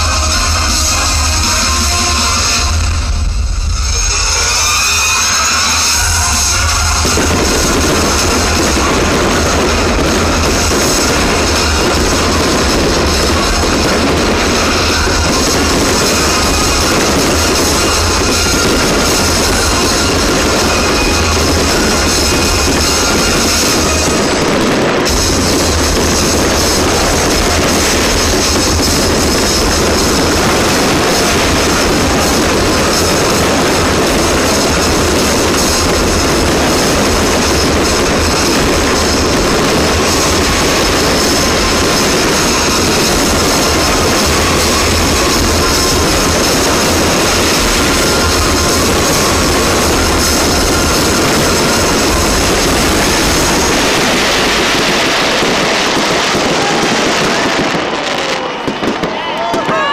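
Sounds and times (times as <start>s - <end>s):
fireworks crackling and banging: 0.0s - 59.9s.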